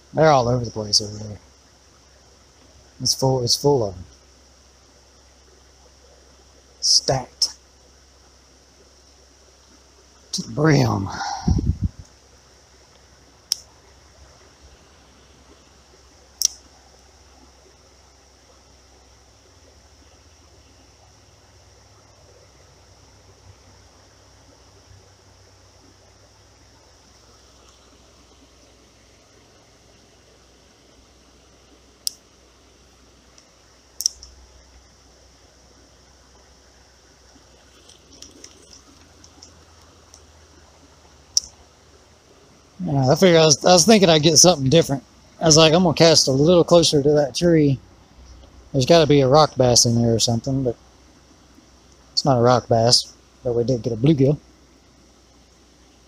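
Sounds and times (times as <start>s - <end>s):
creek water hiss: 0.0s - 56.0s.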